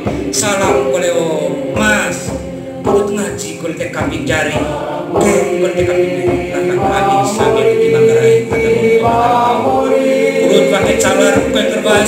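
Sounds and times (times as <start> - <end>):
voices singing unaccompanied: 0.0 - 12.0.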